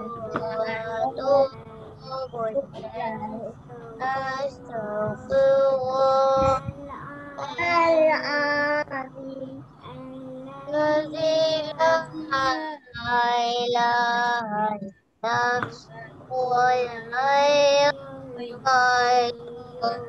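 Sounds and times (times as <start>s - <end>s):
children and woman singing: 0.0s - 20.0s.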